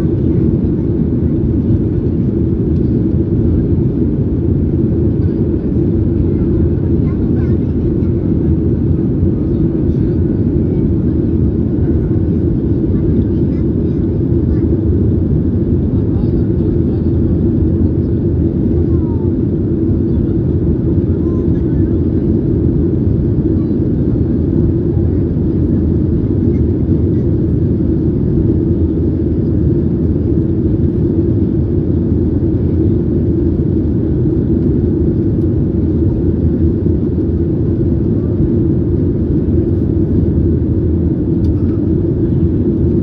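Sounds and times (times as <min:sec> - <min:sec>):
jet engine rumble in cabin: 0:00.0 - 0:43.0.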